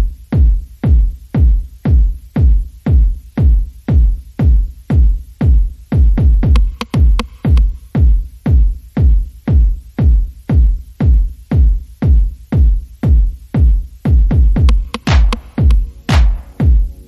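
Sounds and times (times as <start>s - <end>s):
deep drum machine kick: 0.0s - 17.0s
electronic music: 0.0s - 17.0s.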